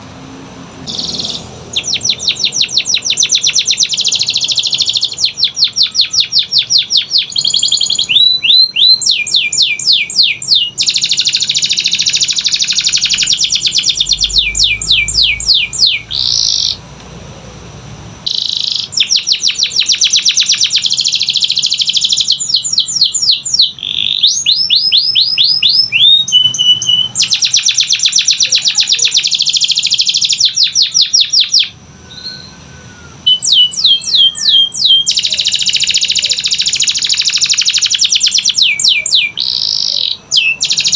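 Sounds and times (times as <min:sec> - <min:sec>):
canary singing trills: 0:00.8 - 0:16.8, 0:18.2 - 0:40.9.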